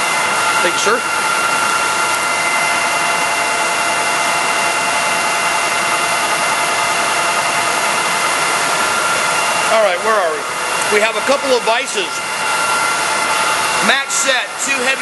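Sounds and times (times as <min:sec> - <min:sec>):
shop machinery whine: 0:00.0 - 0:15.0.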